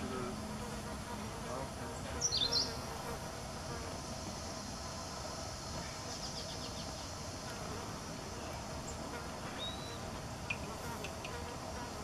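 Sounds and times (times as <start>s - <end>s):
insect buzzing: 0.0s - 12.0s.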